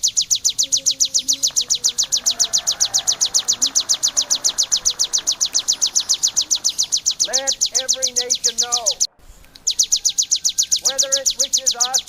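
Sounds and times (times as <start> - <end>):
bird singing fast high chirps: 0.0 - 12.0.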